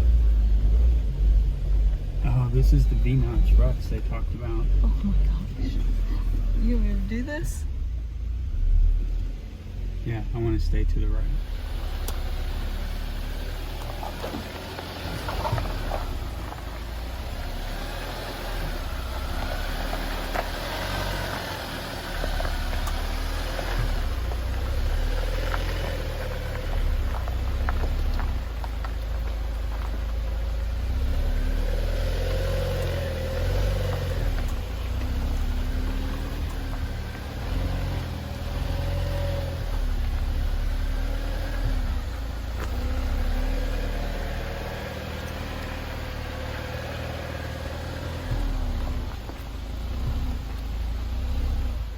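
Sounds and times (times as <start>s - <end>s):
off-road vehicle engine crawling: 0.0s - 51.9s.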